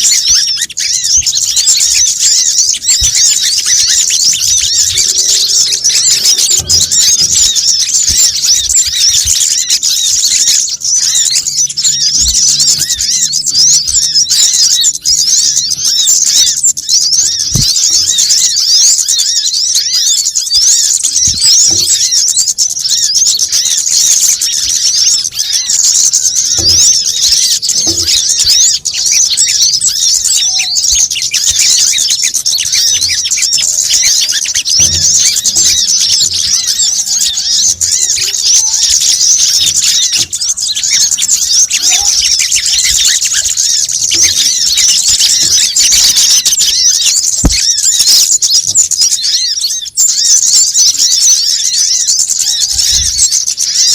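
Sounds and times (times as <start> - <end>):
small birds twittering: 0.0 - 53.9.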